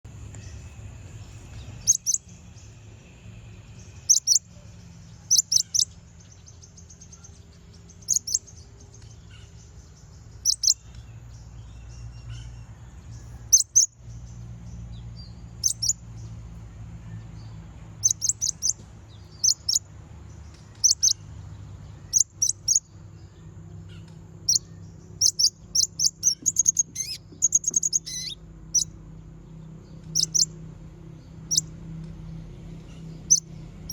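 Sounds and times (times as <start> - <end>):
bird chirping and twittering: 0.1 - 33.9.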